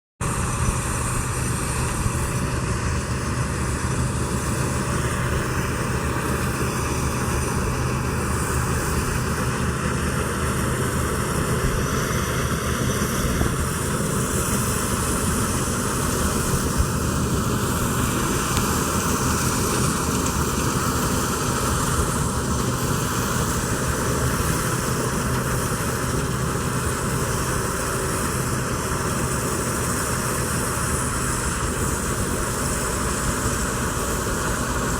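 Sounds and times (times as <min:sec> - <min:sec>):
harvester engine drone: 0:00.2 - 0:34.9.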